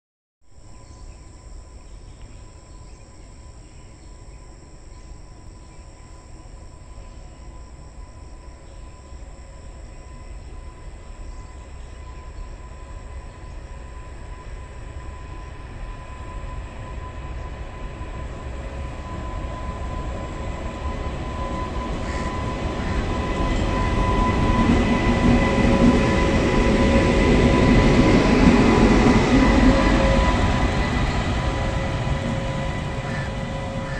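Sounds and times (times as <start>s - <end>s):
locomotive whine: 0.5s - 33.9s
train wheels rumbling on rails: 1.1s - 33.9s.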